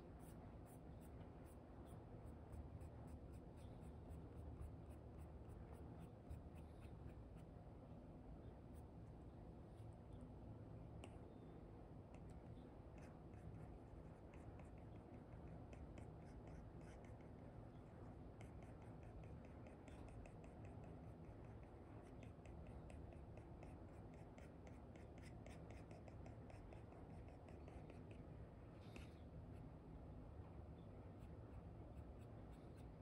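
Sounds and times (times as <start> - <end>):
stylus scratching and tapping screen: 0.1 - 7.6, 12.1 - 29.7, 30.8 - 33.0.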